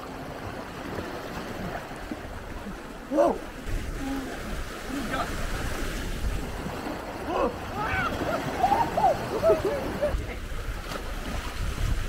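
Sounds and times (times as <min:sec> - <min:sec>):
waves washing against shore: 0:00.0 - 0:12.0.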